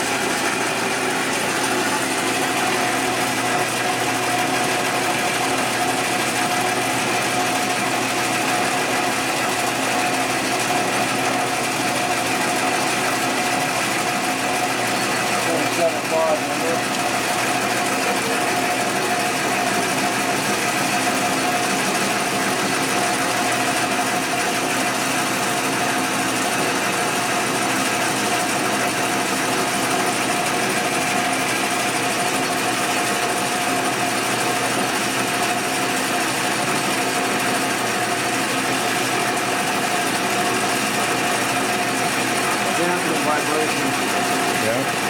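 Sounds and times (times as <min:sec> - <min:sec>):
metal lathe whining: 0:00.0 - 0:45.0.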